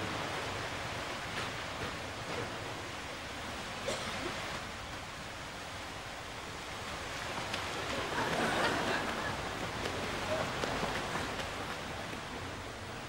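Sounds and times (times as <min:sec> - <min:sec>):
swimmer splashing water: 0:00.0 - 0:13.0.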